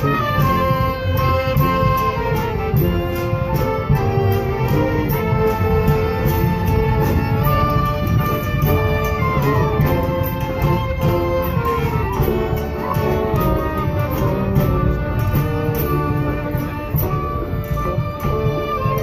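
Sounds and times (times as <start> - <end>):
acoustic band playing lively tune: 0.0 - 19.0
bass drum beat: 0.0 - 19.0.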